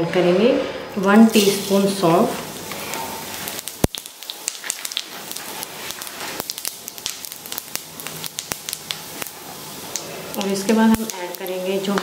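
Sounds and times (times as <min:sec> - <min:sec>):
seeds sizzling and crackling in oil: 0:01.0 - 0:12.0.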